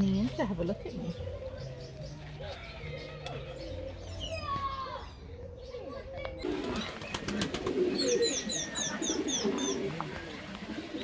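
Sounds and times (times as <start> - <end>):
birds cooing: 0.0 - 11.0.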